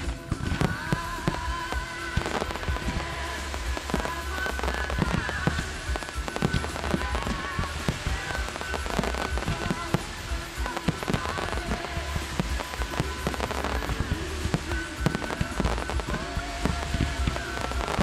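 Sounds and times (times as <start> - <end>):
fireworks bangs and pops: 0.0 - 18.0
music with deep bass: 0.0 - 18.0.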